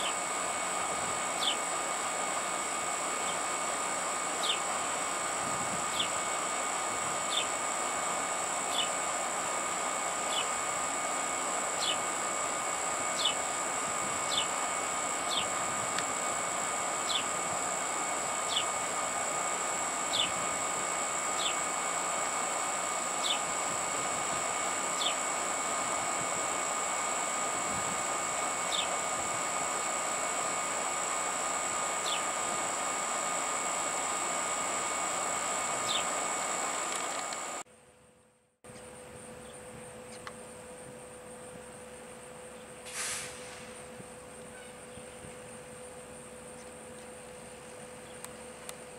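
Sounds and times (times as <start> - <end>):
even hum: 0.0 - 48.9
insect drone: 0.0 - 48.9.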